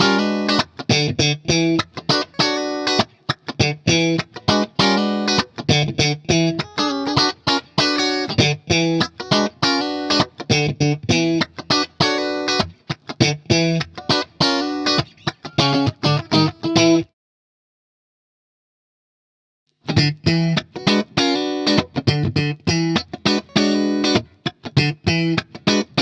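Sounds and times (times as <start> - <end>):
clean electric guitar chords: 0.0 - 17.1, 19.9 - 26.0.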